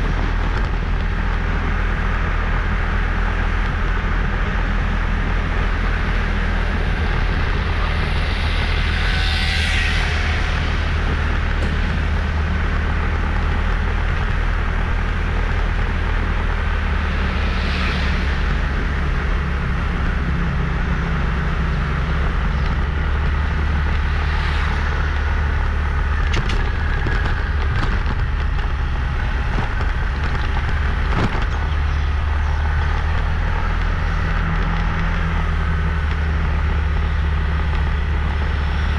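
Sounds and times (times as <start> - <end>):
motorbike engine and road rumble: 0.0 - 38.9
passing traffic: 0.0 - 38.9.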